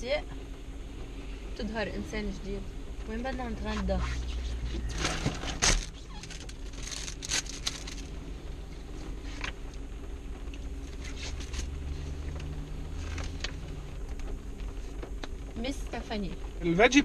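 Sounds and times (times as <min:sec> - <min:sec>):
low hum inside a car: 0:00.0 - 0:17.0.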